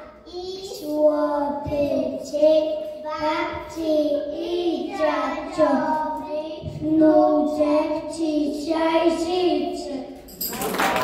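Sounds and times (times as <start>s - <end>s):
young child singing: 0.0s - 10.2s.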